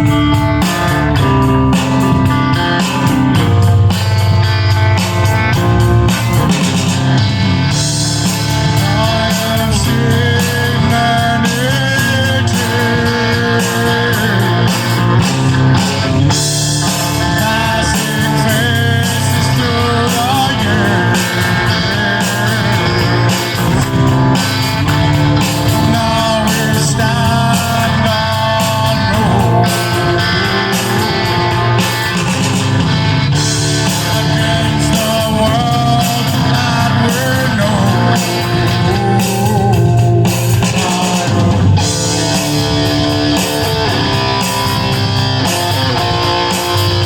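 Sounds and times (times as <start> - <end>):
rock music with distorted guitar: 0.0 - 47.0.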